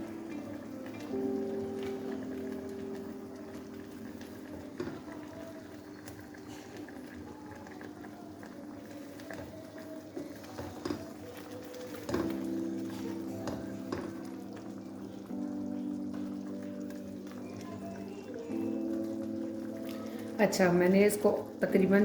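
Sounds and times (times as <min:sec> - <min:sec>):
food simmering and bubbling: 0:00.0 - 0:22.0.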